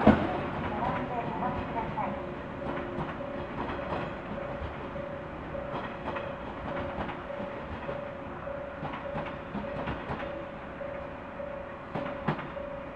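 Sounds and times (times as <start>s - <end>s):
train wheels clicking over rail joints: 0.0s - 8.0s, 8.6s - 10.5s, 11.9s - 12.9s.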